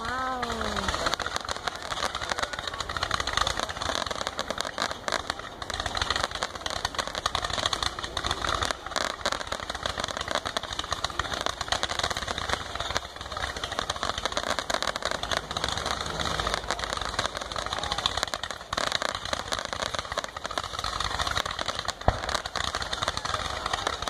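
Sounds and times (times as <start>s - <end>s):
fireworks firing rapid barrage: 0.0s - 24.0s.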